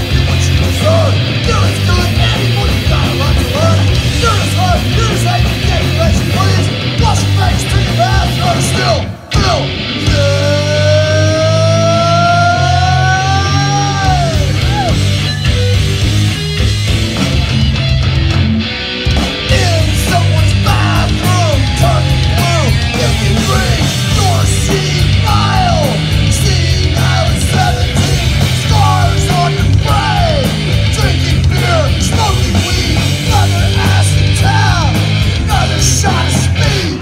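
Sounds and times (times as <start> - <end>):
shouted vocals: 0.0 - 15.2, 19.5 - 37.0
bass guitar: 0.0 - 37.0
distorted electric guitar: 0.0 - 37.0
fast drums: 0.0 - 37.0.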